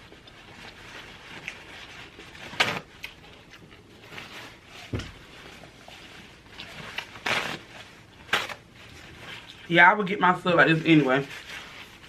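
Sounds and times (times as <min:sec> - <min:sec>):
crackly eating noise: 0:00.0 - 0:12.0.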